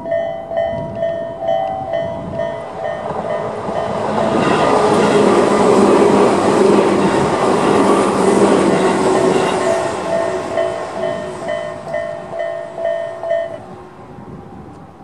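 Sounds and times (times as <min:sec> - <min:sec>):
level crossing warning bell: 0:00.0 - 0:14.3
electric train running: 0:00.0 - 0:14.8.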